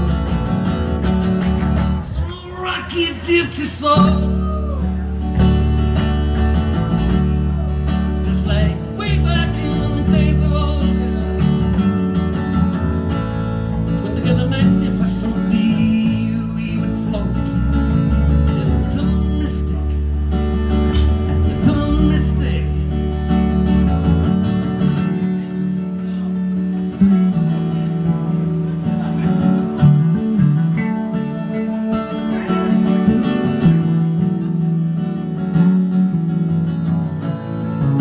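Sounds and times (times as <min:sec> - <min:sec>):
acoustic guitar strummed: 0:00.0 - 0:38.0
electric bass guitar: 0:00.0 - 0:38.0.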